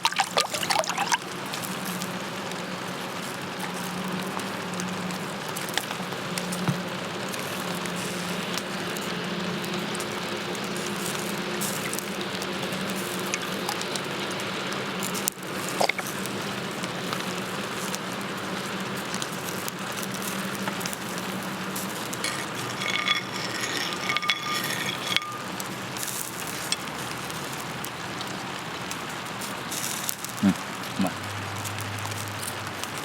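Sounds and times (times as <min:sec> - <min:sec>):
campfire crackling: 0:00.0 - 0:33.0
rain falling: 0:00.0 - 0:33.0.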